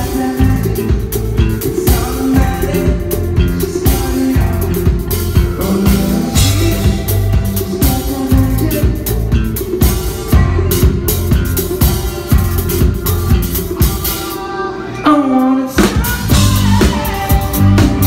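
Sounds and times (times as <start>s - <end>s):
drum kit beating: 0.0s - 14.7s, 15.4s - 18.0s
rock band playing live: 0.0s - 18.0s.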